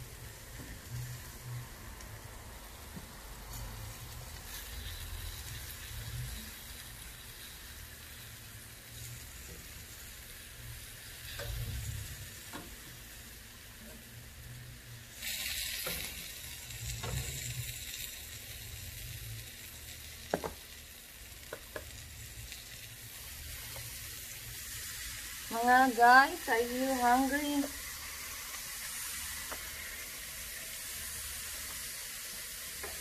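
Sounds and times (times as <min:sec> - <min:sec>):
chicken sizzling on a grill: 0:00.0 - 0:33.0.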